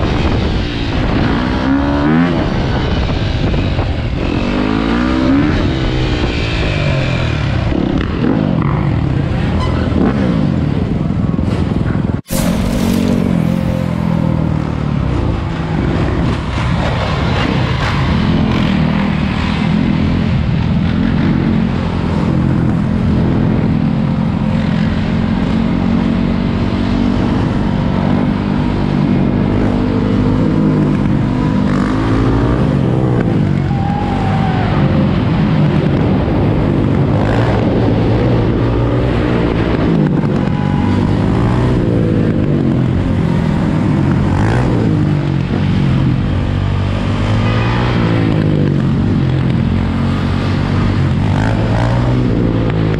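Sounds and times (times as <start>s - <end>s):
quad and dirt-bike engines revving: 0.0s - 52.9s.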